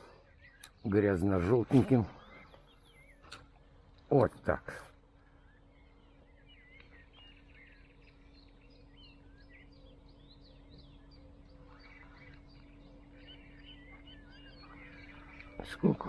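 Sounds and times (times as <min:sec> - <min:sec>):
faint birdsong chirps and whistles: 0:00.0 - 0:16.0
low steady hum: 0:00.0 - 0:16.0.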